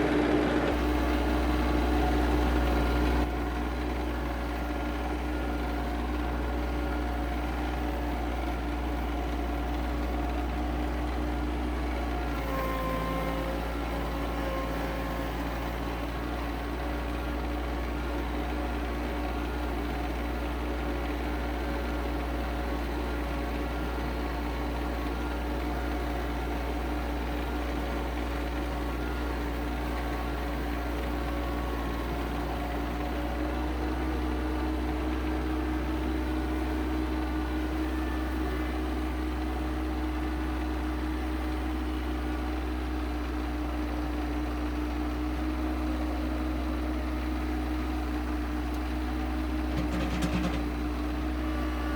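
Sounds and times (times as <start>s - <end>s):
diesel tractor engine running: 0.0s - 51.9s.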